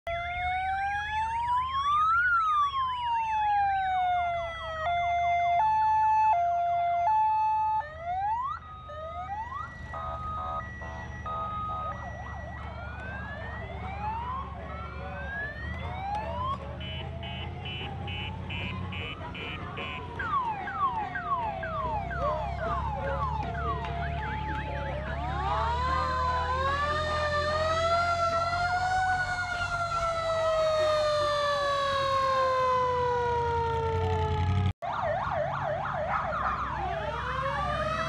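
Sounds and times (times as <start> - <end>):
fainter sirens: 0.1 - 38.0
police siren wailing and yelping: 0.1 - 38.0.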